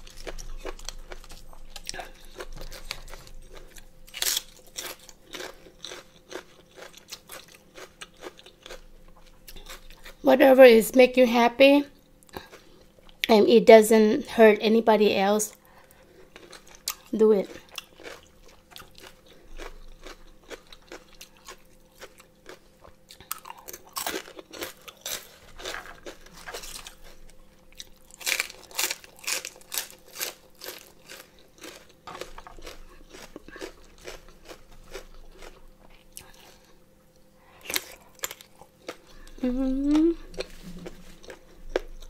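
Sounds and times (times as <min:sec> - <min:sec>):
person chewing crunchy food: 0:00.0 - 0:10.2, 0:12.0 - 0:13.3, 0:15.5 - 0:42.0.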